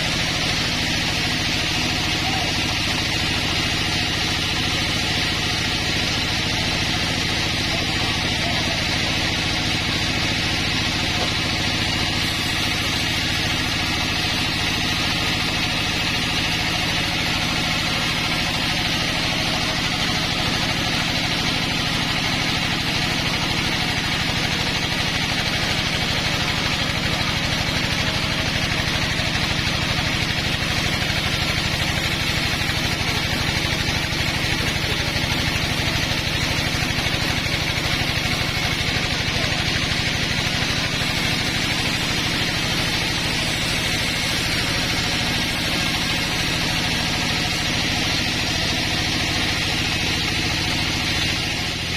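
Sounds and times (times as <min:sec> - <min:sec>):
saw cutting log hiss: 0:00.0 - 0:51.9
sawmill engine drone: 0:00.0 - 0:51.9.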